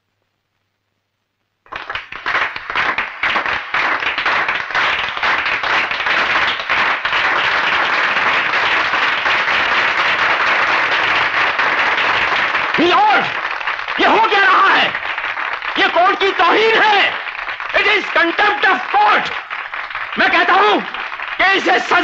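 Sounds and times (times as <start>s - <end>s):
crowd applauding: 1.7s - 22.0s.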